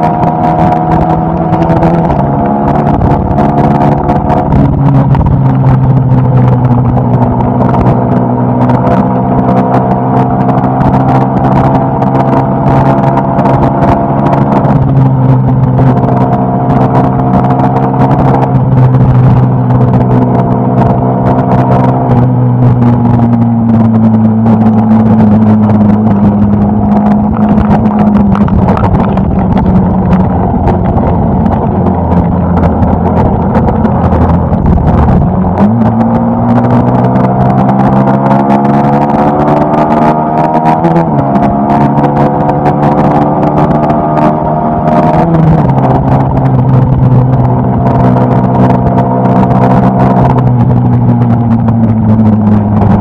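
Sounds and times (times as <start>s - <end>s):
motorcycle engine running: 0.0s - 53.0s
wind rushing: 0.0s - 53.0s.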